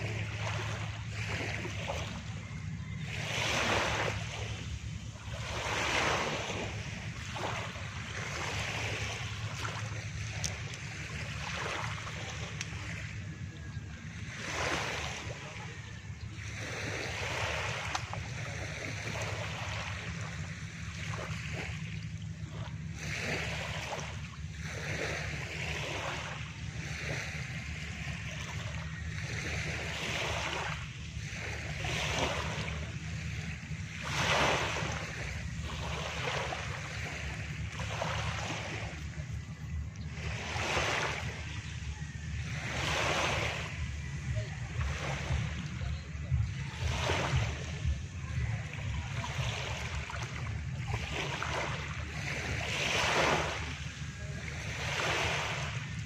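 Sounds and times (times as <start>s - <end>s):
low rumble: 0.0s - 56.0s
small waves breaking on shore: 0.0s - 56.0s.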